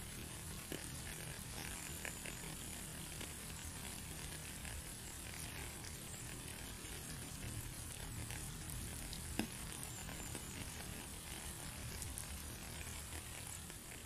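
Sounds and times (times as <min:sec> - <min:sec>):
raindrops ticking: 0:00.0 - 0:14.0
steady rain hiss: 0:00.0 - 0:14.0.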